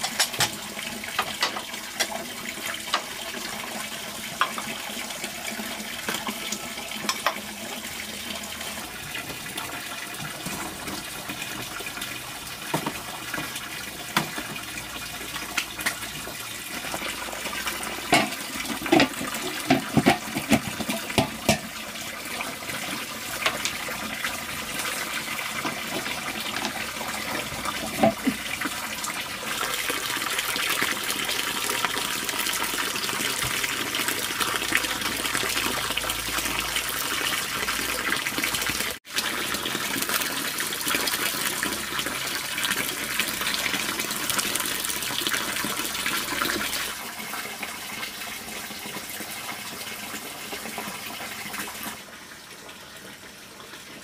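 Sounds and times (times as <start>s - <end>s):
running and splashing water: 0.0s - 54.0s.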